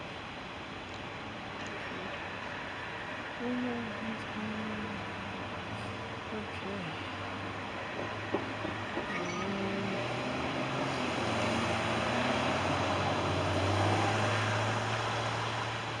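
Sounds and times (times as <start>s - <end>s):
freight train wheels rumbling on rails: 1.6s - 14.4s.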